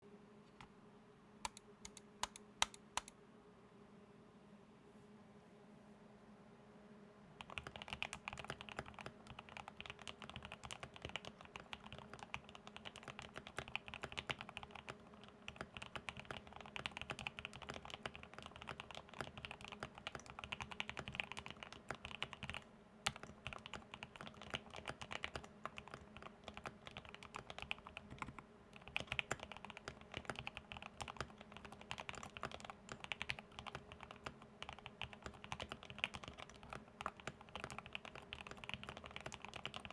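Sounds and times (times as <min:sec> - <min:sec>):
fast mechanical keyboard typing: 0:01.5 - 0:03.1, 0:07.4 - 0:39.9.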